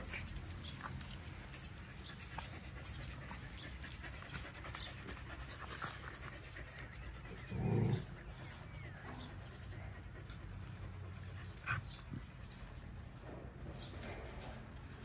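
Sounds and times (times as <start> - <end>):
dog panting: 0.0 - 12.6.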